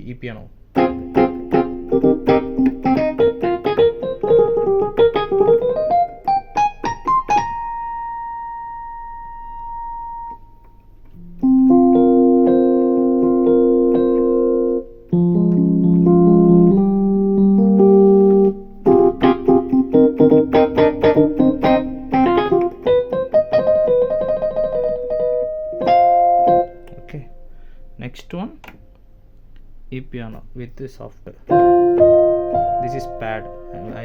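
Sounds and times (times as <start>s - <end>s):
electric piano notes and chords: 0.7s - 27.8s, 31.3s - 34.0s.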